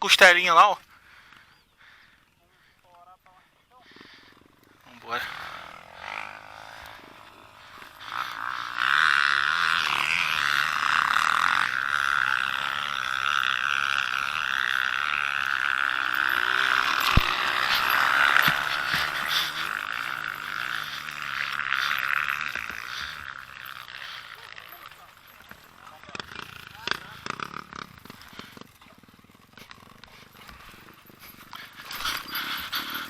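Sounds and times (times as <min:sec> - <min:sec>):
motorcycle engine running hard: 0:03.3 - 0:33.0.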